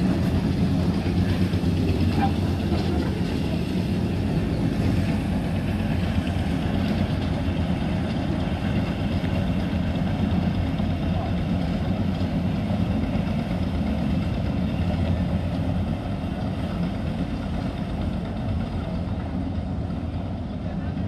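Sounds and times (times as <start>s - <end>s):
railway vehicle engine idling: 0.0s - 21.0s.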